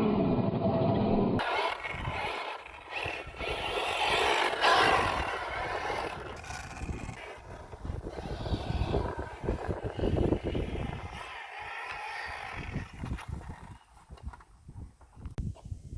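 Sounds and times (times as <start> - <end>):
electric motor whining: 1.4 - 14.4
tyres scraping on dirt: 1.4 - 15.3.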